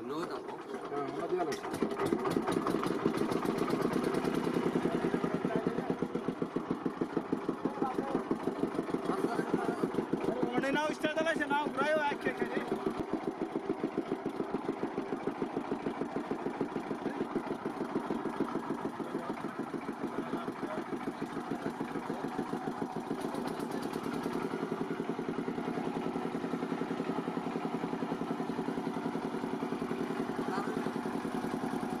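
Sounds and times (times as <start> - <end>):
small engine thumping: 0.0 - 32.0.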